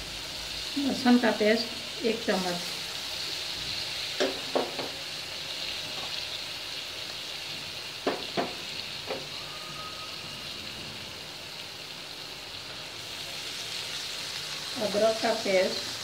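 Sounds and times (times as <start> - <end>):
paste sizzling in oil: 0.0 - 16.0.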